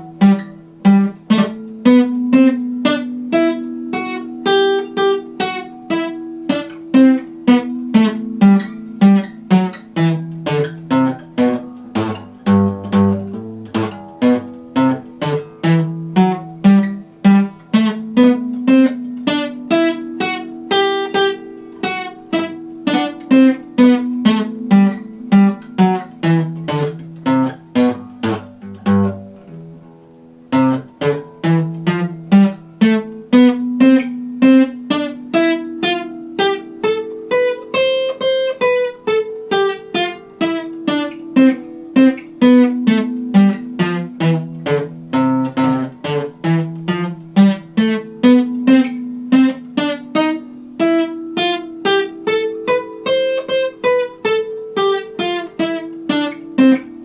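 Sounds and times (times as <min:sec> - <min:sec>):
acoustic guitar picked notes: 0:00.0 - 0:57.0.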